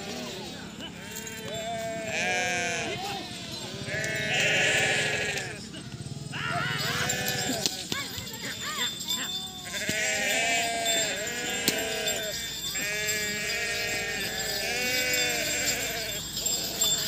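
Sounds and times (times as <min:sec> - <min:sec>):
men shouting and hollering: 0:00.0 - 0:17.0.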